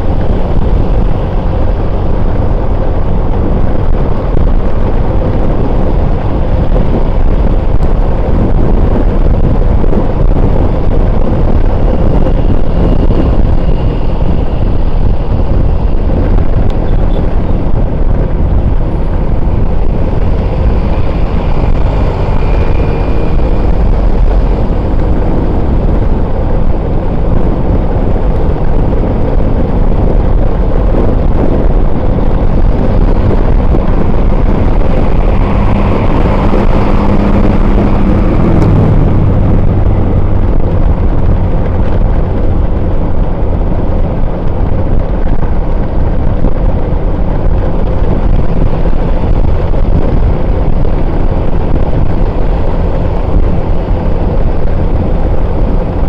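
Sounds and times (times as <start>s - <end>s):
road and wind rumble: 0.0s - 56.0s
vehicle engine running: 0.0s - 56.0s.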